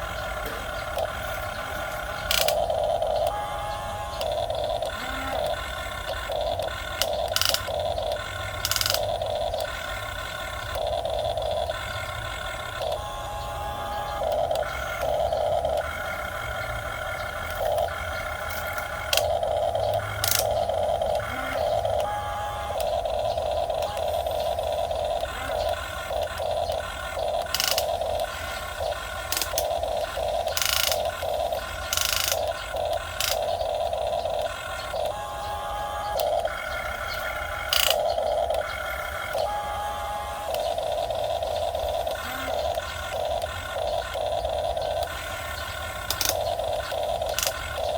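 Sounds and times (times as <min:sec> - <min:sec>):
small electric motors whining: 0:00.0 - 0:47.9.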